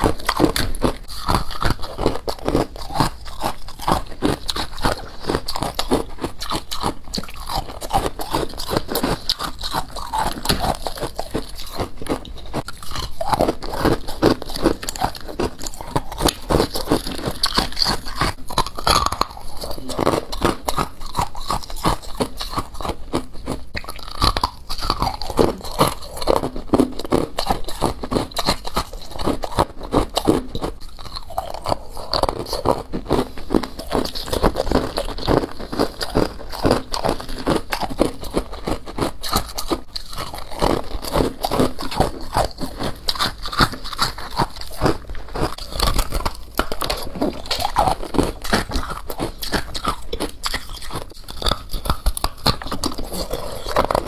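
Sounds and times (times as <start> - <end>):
person chewing and crunching frost: 0.0 - 54.0.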